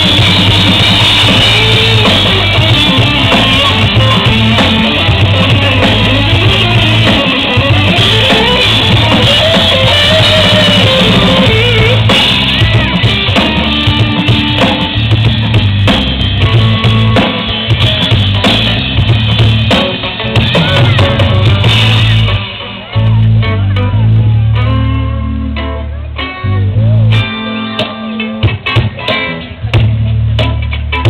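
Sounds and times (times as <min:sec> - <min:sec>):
drum kit beat: 0:00.0 - 0:25.2, 0:27.0 - 0:31.0
bass guitar: 0:00.0 - 0:31.0
electric guitar: 0:00.0 - 0:31.0
live pop-rock band: 0:00.0 - 0:31.0.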